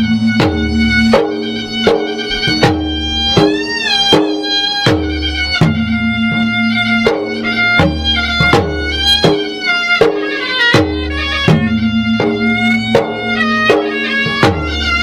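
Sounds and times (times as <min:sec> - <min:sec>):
drums struck in steady pattern: 0:00.0 - 0:15.0
held melody line bending in pitch: 0:00.0 - 0:15.0.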